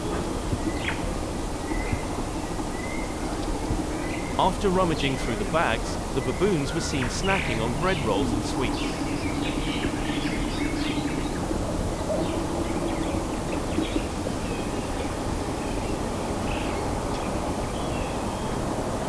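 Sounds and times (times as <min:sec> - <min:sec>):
birds chirping: 0:00.0 - 0:18.7
steady low background noise: 0:00.0 - 0:19.0.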